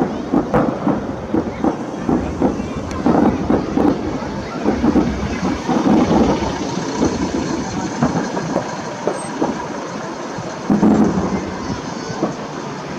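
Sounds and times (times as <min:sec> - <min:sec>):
fireworks booming and crackling: 0:00.0 - 0:12.9.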